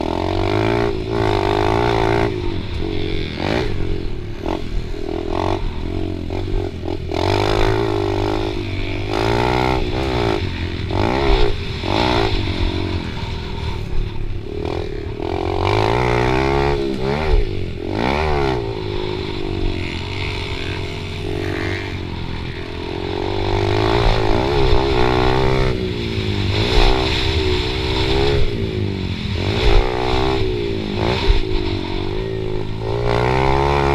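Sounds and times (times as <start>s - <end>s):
pit bike engine revving: 0.0s - 33.9s
second motorbike engine: 0.0s - 33.9s.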